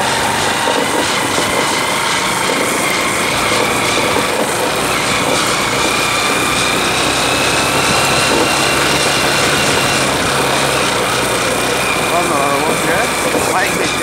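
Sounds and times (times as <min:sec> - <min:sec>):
small motorcycle engine running: 0:00.0 - 0:14.0
wind and road noise: 0:00.0 - 0:14.0.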